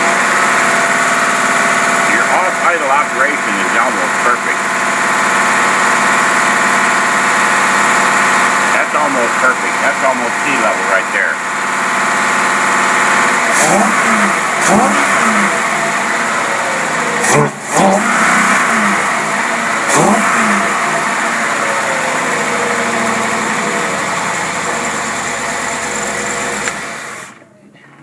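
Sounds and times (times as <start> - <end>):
engine revving: 0.0 - 27.4.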